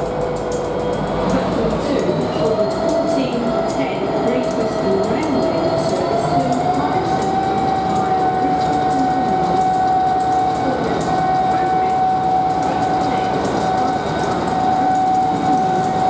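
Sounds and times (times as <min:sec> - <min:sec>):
diesel locomotive engine under load: 0:00.0 - 0:16.0
turbocharger whine: 0:00.0 - 0:16.0.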